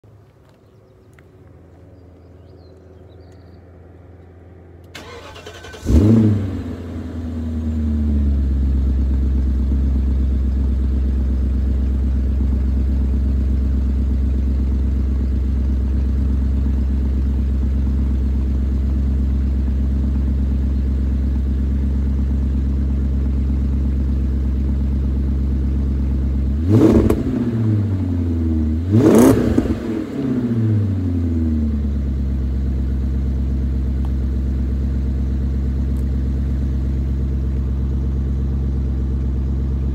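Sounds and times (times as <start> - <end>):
car engine revving and idling: 0.4 - 39.9.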